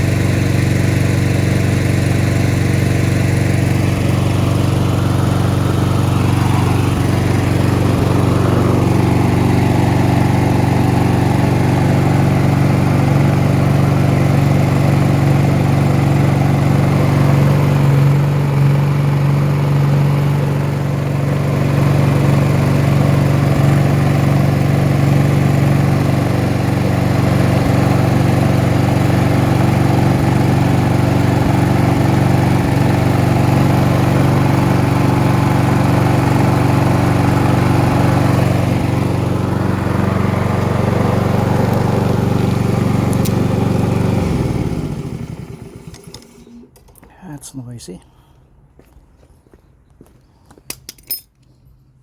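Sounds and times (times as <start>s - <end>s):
lawn mower engine running: 0.0s - 47.3s.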